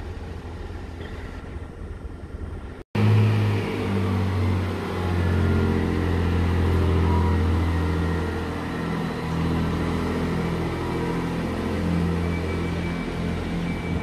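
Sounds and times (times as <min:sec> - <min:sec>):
rail and wheel noise: 0:00.0 - 0:14.0
train engine drone: 0:00.0 - 0:14.0.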